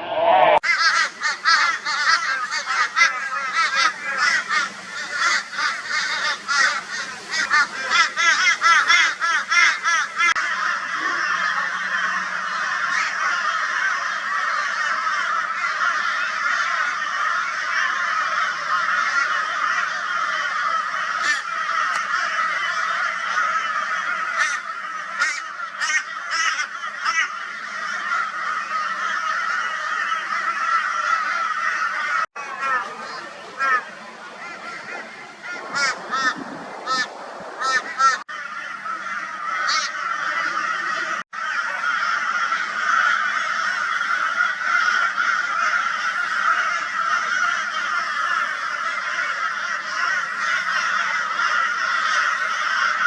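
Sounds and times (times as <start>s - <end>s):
crows cawing raucously: 0.6s - 53.0s.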